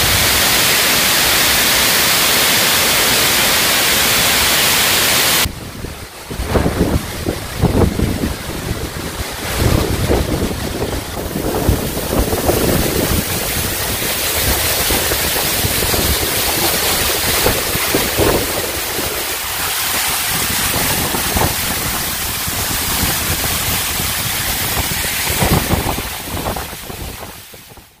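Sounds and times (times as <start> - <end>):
waterfall rushing: 0.0 - 28.0
wind buffeting microphone: 5.4 - 28.0.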